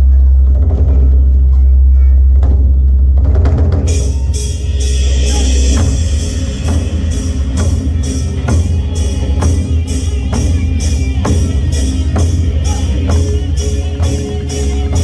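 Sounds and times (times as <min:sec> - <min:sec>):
heavy low rumble: 0:00.0 - 0:15.0
drums playing driving beat: 0:02.4 - 0:15.0.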